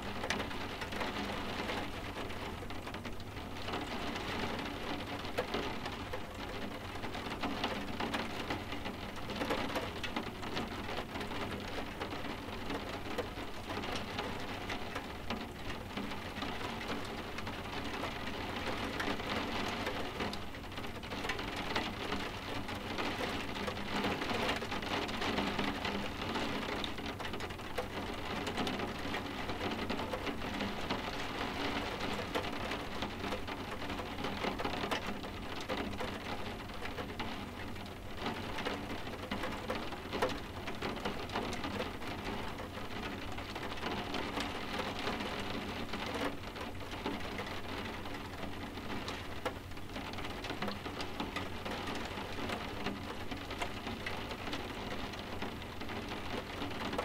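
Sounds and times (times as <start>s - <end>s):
soft steady rain: 0.0s - 57.0s.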